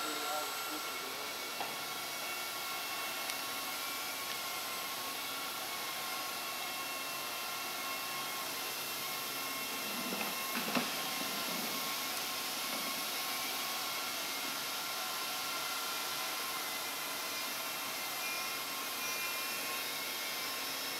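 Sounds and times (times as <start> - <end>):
industrial machinery whirring: 0.0 - 20.9.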